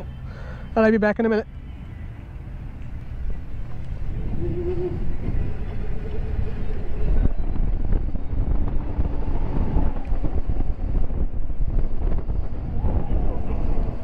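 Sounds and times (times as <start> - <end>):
wind rushing over microphone: 2.4 - 14.0
low rumble: 2.8 - 14.0.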